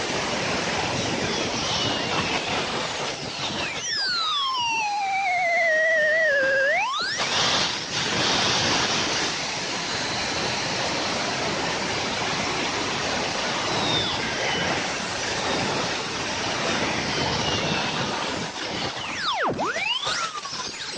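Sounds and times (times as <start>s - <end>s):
turbojet engine whine and roar: 0.0s - 20.9s.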